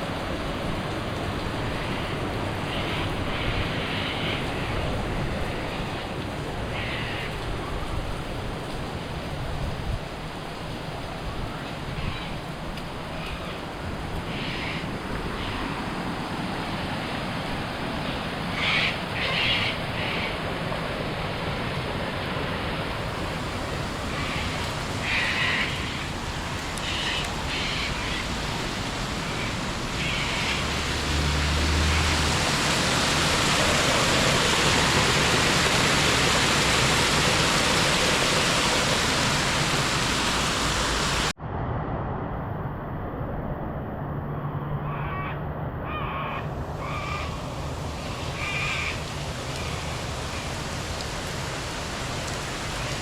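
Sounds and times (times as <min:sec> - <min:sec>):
steady rain hiss: 0:00.0 - 0:41.4, 0:46.5 - 0:53.0.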